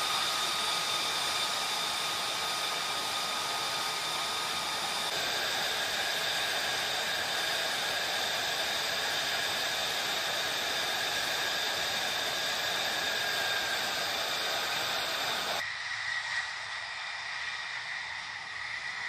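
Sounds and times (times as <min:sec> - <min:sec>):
jet engine roar with turbine whine: 0:00.0 - 0:19.0.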